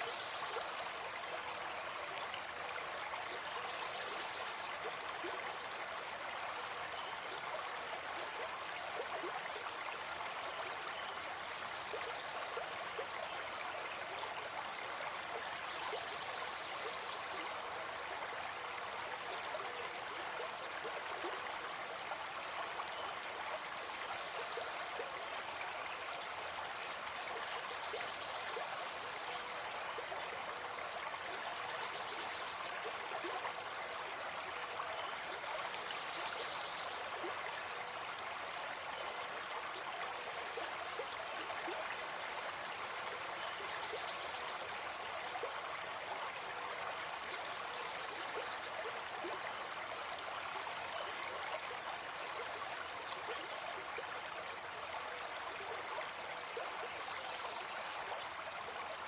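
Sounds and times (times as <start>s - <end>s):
forest stream flowing: 0.0s - 59.0s.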